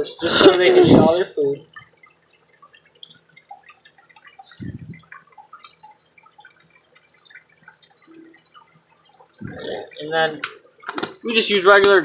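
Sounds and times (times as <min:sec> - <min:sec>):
faint steady hum: 0:00.0 - 0:12.0
water dripping and trickling: 0:00.0 - 0:12.0.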